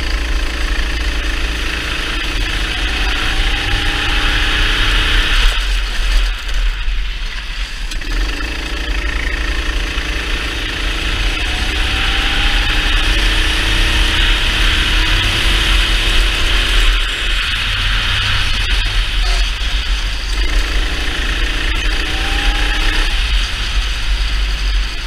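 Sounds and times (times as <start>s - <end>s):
racing kart engine: 0.0s - 25.0s.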